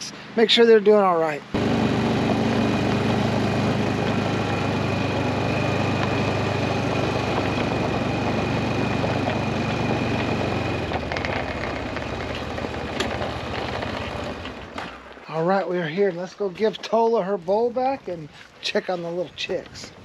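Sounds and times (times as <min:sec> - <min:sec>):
vehicle engine running: 0:00.0 - 0:16.8.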